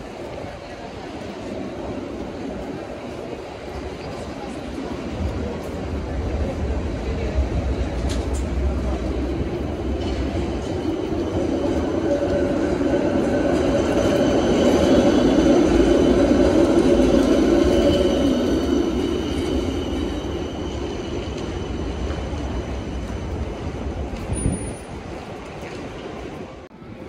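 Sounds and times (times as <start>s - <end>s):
rail vehicle passing: 0.0s - 27.0s.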